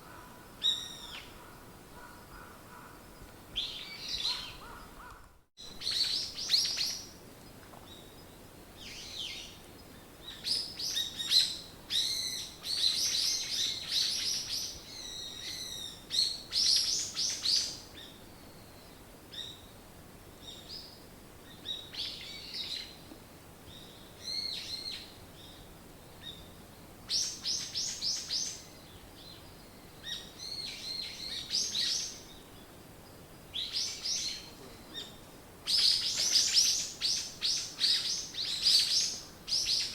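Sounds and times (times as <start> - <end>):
songbirds singing and chirping: 2.0 - 19.8, 23.7 - 39.9.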